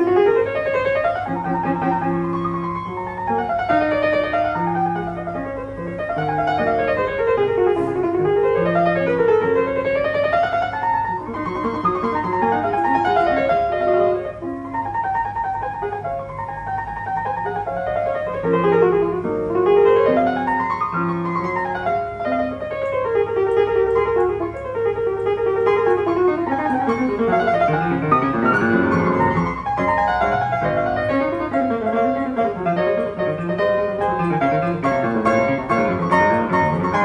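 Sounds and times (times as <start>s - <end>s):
grand piano runs and arpeggios: 0.0s - 37.0s.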